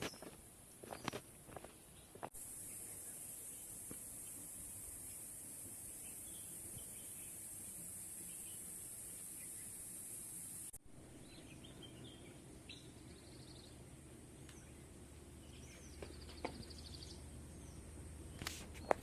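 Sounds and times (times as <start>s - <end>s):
small birds chirping and trilling: 0.0s - 19.0s
steady high hiss: 0.0s - 19.0s.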